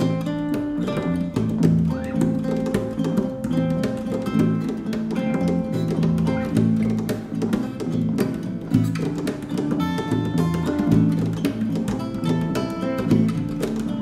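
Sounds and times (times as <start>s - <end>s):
acoustic guitar playing chords: 0.0s - 14.0s.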